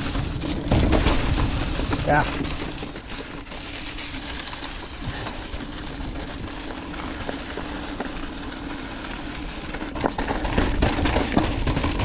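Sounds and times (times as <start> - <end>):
bike rattling: 0.0 - 12.0
bike tyres rumbling on dirt: 0.0 - 12.0.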